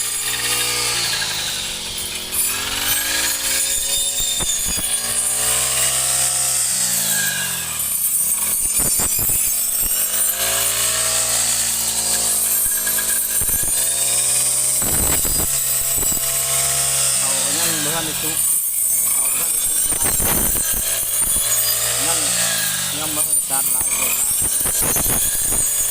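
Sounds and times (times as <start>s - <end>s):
small engine cutting tool revving: 0.0s - 25.9s.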